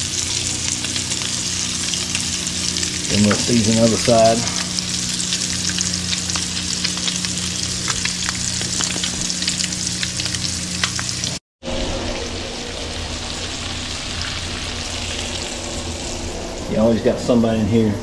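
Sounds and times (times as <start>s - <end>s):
fish sizzling in butter: 0.0s - 16.7s.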